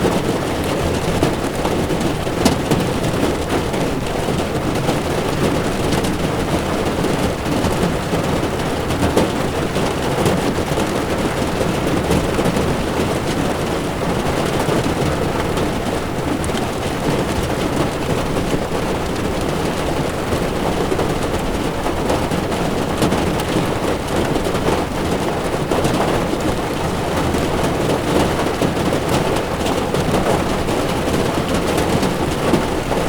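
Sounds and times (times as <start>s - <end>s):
heavy rain on a car: 0.0s - 33.0s
tyres on wet road: 0.0s - 33.0s.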